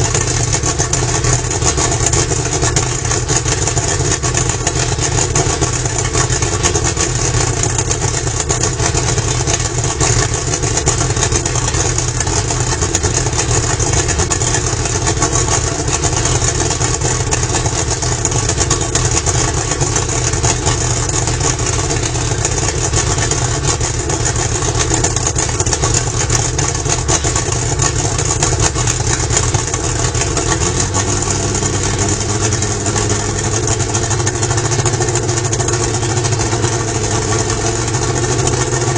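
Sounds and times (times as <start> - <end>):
outboard engine idling and revving: 0.0 - 38.9.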